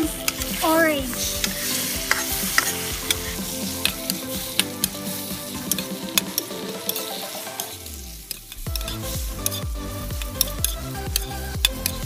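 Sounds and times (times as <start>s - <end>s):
shrimp sizzling in a wok: 0.1s - 10.6s.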